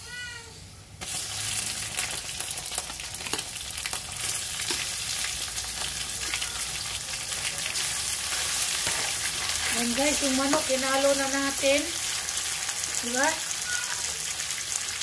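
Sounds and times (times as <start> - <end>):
chicken sizzling in hot oil: 1.0 - 15.0.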